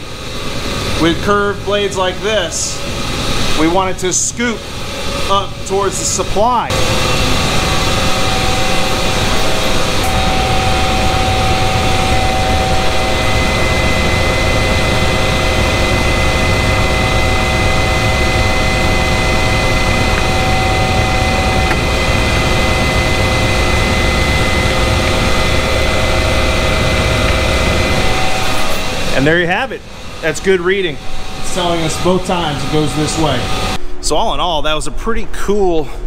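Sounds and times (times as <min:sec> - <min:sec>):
blower rushing air: 0:00.0 - 0:34.6
steady whining tones: 0:00.0 - 0:35.0.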